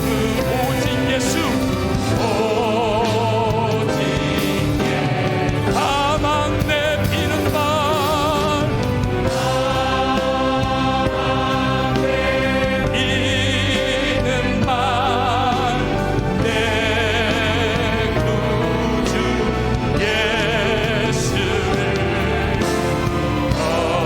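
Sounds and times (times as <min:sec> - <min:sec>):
sustained keyboard chords: 0:00.0 - 0:24.0
voices singing with vibrato: 0:00.0 - 0:24.0.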